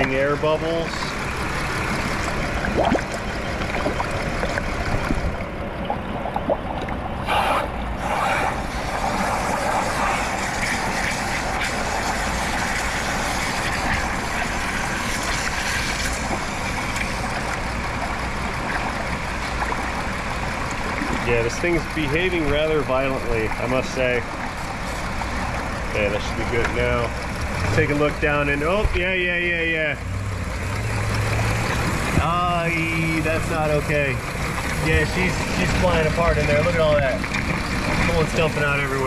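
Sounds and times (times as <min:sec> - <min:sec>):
engine running rough with misfire: 0:00.0 - 0:39.0
water rushing into funnel: 0:00.0 - 0:39.0.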